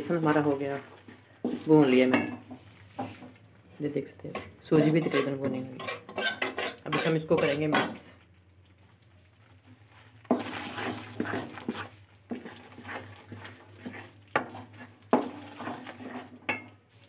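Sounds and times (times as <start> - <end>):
wooden spatula scraping paste in pan: 0.0 - 8.1, 9.5 - 17.0.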